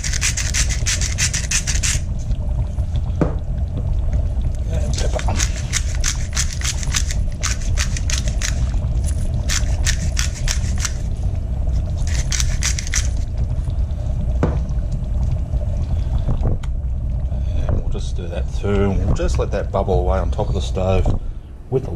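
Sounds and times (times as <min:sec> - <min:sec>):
salt crackling in a pot: 0:00.0 - 0:21.0
low rumble: 0:01.9 - 0:21.9.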